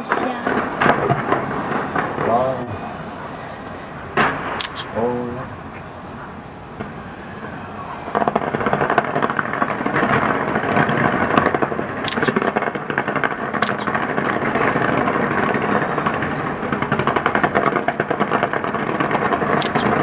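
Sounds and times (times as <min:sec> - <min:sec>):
fireworks crackling bangs: 0:00.0 - 0:20.0.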